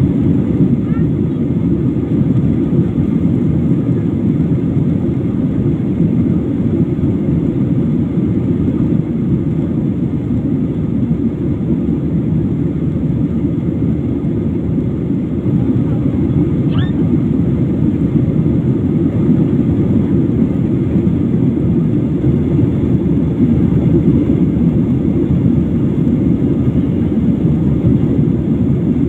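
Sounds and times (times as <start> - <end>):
airliner cabin engine noise: 0.0 - 29.0.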